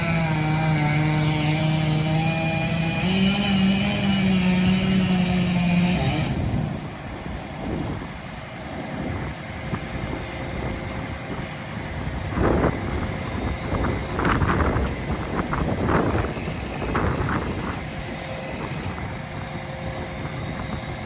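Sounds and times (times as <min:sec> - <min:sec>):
chainsaw running with high whine: 0:00.0 - 0:21.0
truck engine and hydraulics running: 0:00.0 - 0:21.0.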